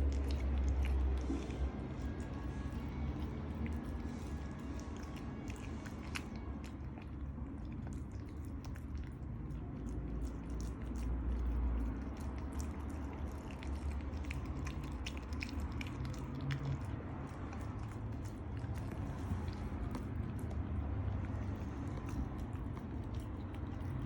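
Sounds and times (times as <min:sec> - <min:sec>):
dog chewing on chicken: 0:00.0 - 0:24.0.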